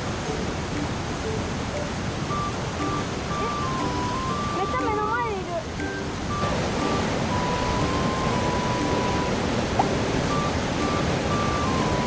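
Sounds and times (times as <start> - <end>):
soft background music: 0.0 - 12.0
stream rapids rushing: 0.0 - 12.0.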